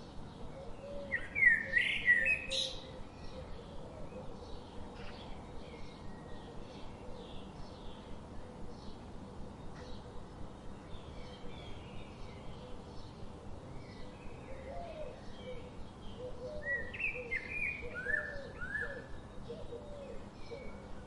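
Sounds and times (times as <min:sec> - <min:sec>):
background hiss and rumble: 0:00.0 - 0:21.0
songbirds chirping: 0:00.0 - 0:21.0.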